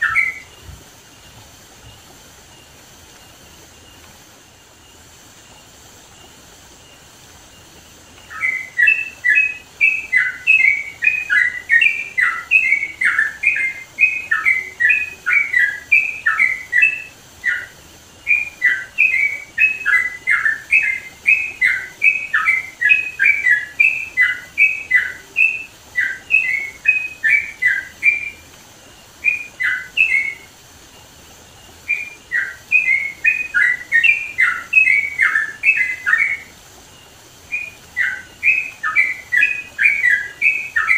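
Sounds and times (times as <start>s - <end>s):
bird singing rapid notes: 0.0s - 4.0s, 6.8s - 40.9s
faint steady hiss: 0.0s - 40.9s.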